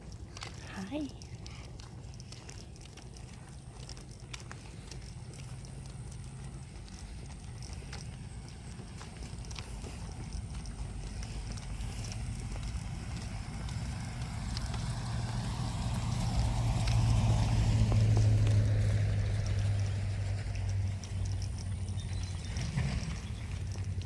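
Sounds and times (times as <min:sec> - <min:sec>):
footsteps crunching outdoors: 0:00.0 - 0:24.0
low rumble: 0:00.0 - 0:24.0.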